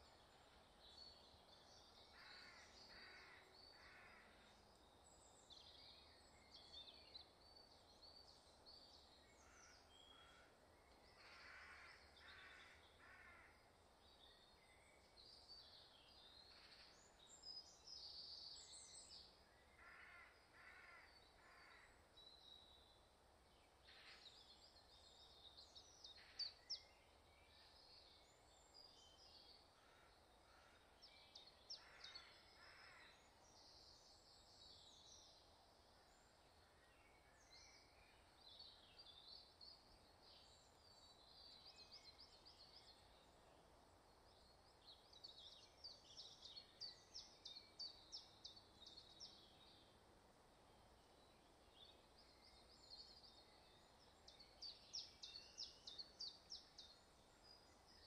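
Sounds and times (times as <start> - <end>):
small birds singing: 0.0 - 58.0.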